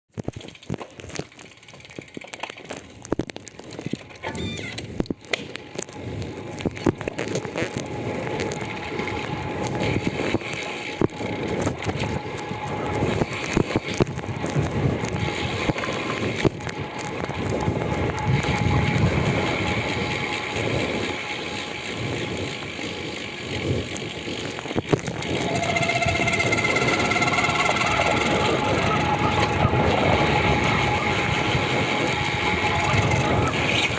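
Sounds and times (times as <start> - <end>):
bicycle clicks and rattles: 0.1 - 33.9
road and tyre noise: 0.1 - 33.9
steady pitched wheel hum: 4.4 - 33.9.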